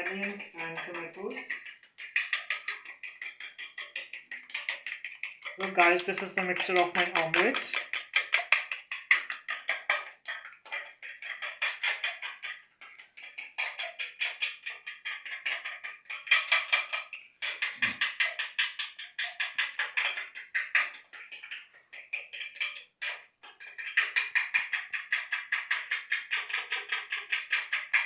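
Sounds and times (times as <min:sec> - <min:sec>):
utensil beating eggs in bowl: 0:00.0 - 0:28.0.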